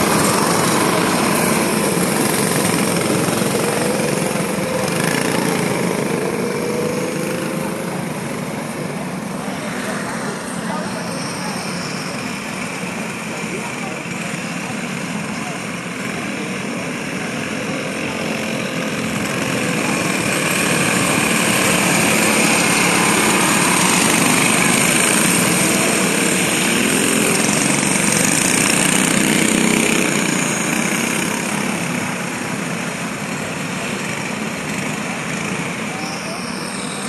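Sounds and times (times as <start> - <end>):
go-kart engines droning: 0.0 - 37.0.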